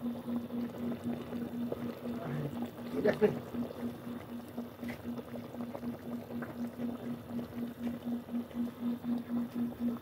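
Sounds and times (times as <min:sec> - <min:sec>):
sauce bubbling in pot: 0:00.0 - 0:10.0.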